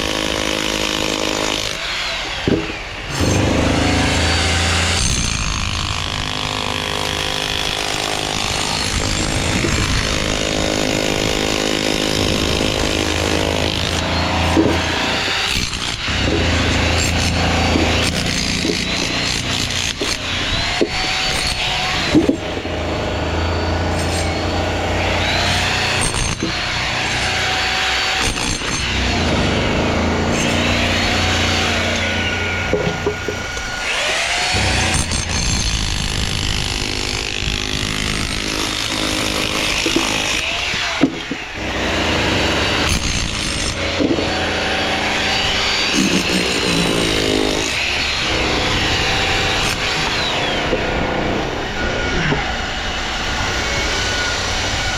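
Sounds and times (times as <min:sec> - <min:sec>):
power tool motor spinning: 0:00.0 - 0:54.9.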